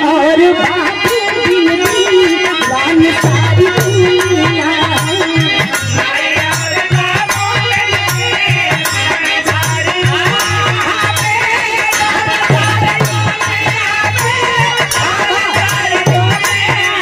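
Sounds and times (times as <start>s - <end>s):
hand drum beat: 1.0s - 17.0s.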